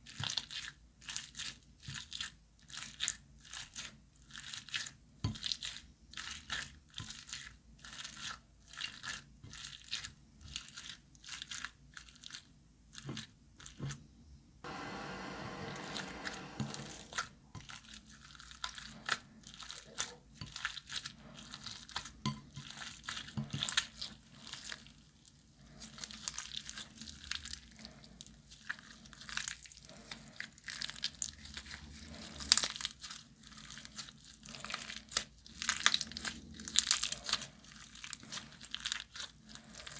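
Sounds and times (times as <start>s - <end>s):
slime squelch: 0.0s - 14.0s, 14.7s - 39.9s.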